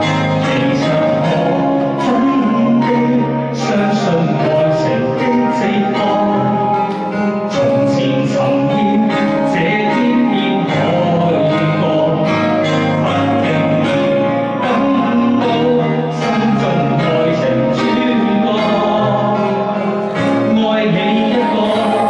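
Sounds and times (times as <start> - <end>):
pop ballad with guitar and singing: 0.0 - 22.0.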